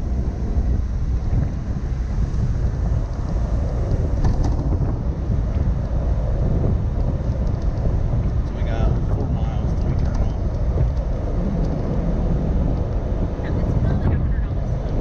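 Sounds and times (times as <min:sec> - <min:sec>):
car engine and tyres rumbling: 0:00.0 - 0:15.0
wind buffeting microphone: 0:00.0 - 0:15.0.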